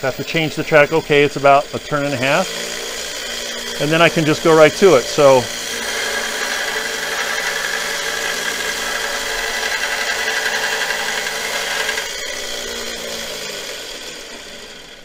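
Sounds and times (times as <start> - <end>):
electric motor hum: 0.0 - 15.0
belt grinder sharpening steel: 0.4 - 14.0.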